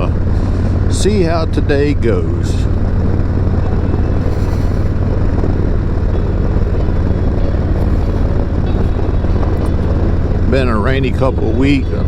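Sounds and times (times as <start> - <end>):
motorcycle engine rumbling: 0.0 - 12.0
wind noise: 0.0 - 12.0.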